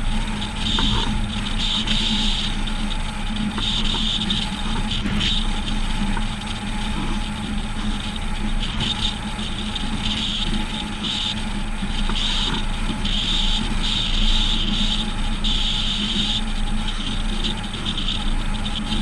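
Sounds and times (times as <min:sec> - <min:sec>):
low even hum: 0:00.0 - 0:19.0.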